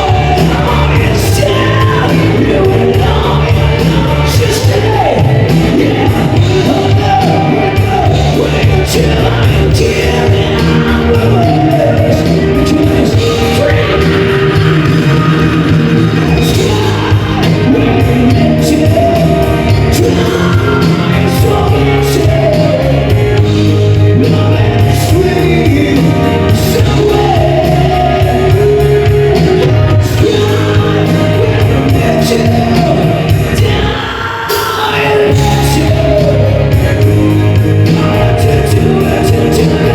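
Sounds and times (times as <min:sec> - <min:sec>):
live band playing: 0:00.0 - 0:39.9
person singing: 0:00.0 - 0:39.9.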